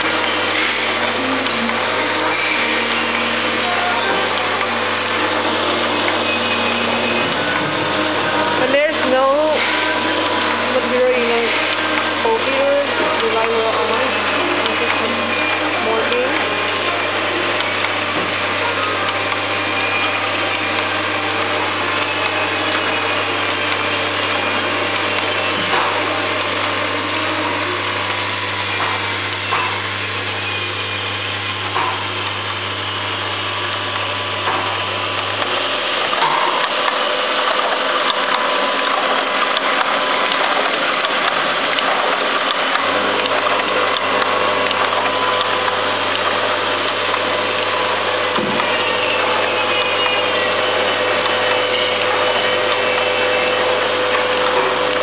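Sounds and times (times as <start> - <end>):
machine whirring and clattering: 0.0 - 55.0.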